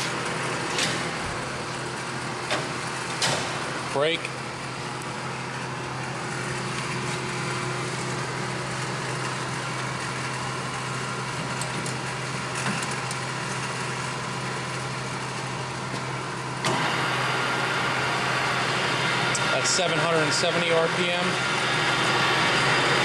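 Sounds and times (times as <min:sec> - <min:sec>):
lathe humming and whirring: 0:00.0 - 0:23.0.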